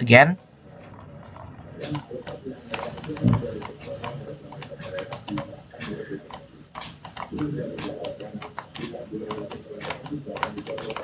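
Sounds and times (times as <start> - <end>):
computer typing clicks: 0.4 - 11.0.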